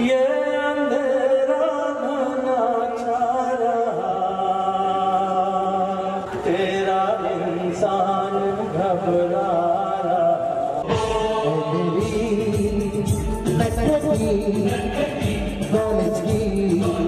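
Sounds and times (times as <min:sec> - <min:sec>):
man singing chant-like: 0:00.0 - 0:17.0.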